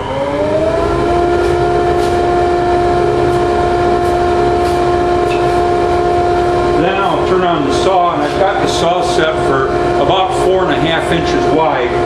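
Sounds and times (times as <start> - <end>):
dust collector whine: 0.0 - 12.0.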